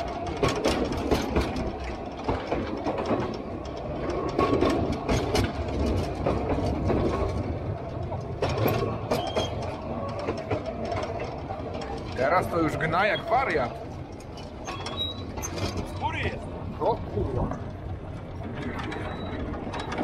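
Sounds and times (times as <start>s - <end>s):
diesel train rumbling: 0.0s - 20.0s
wheels clattering on track: 0.0s - 20.0s.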